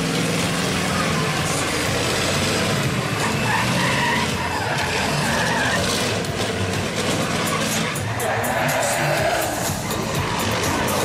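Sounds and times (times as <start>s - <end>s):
diesel truck engine: 0.0s - 11.0s
tyres skidding on wet tarmac: 0.0s - 11.0s.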